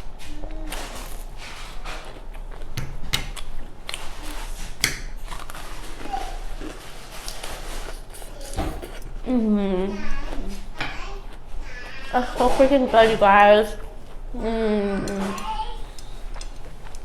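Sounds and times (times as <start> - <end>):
person chewing wetly: 0.0 - 12.4, 13.7 - 17.0.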